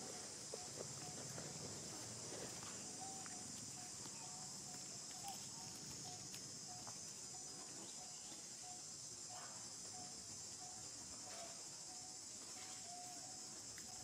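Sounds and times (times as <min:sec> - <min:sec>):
insect chorus drone: 0:00.0 - 0:14.0.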